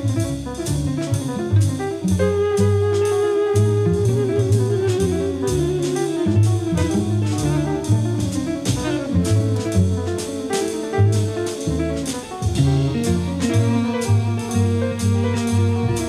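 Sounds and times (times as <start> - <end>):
bass line: 0.0 - 16.0.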